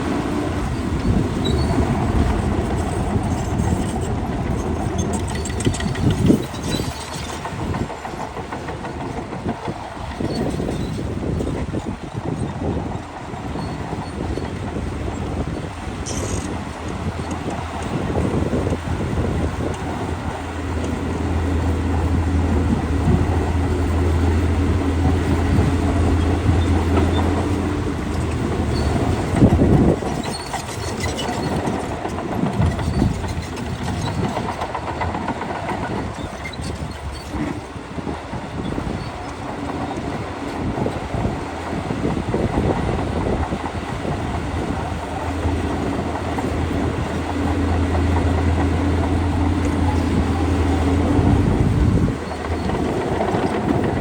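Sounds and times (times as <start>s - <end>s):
bulldozer diesel engine droning: 0.0s - 54.0s
clanking and rattling: 0.2s - 11.9s, 13.5s - 54.0s.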